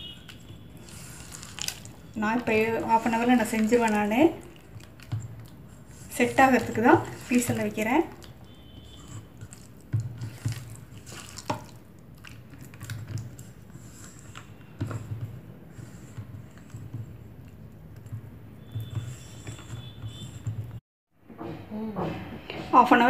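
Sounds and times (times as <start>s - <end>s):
hand squishing wet paste: 0.2s - 19.9s.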